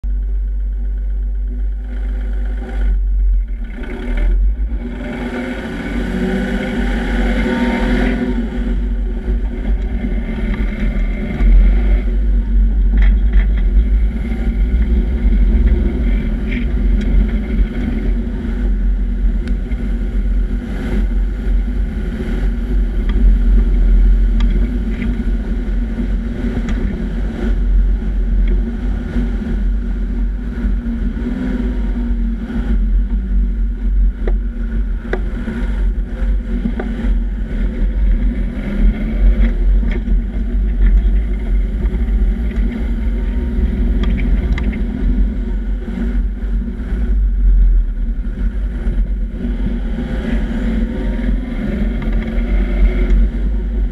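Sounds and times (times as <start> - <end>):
tyres rumbling on dirt: 0.0 - 53.9
wind buffeting microphone: 0.0 - 53.9
car engine pulling away: 0.2 - 53.9.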